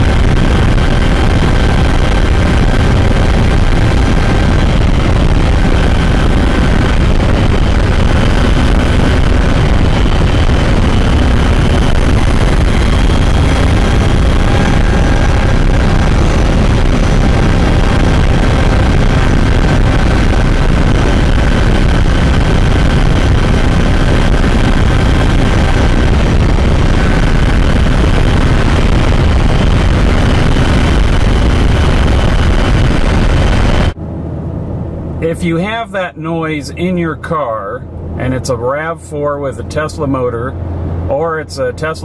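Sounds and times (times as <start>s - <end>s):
electric motor whine: 0.0s - 34.0s
road and driving noise: 0.0s - 42.0s.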